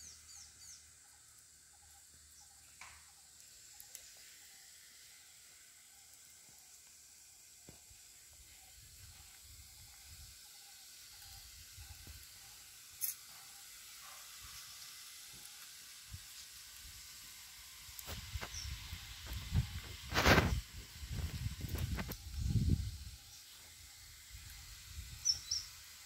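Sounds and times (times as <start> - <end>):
fire crackle: 0.0 - 26.0
wood fire hissing: 0.0 - 26.0.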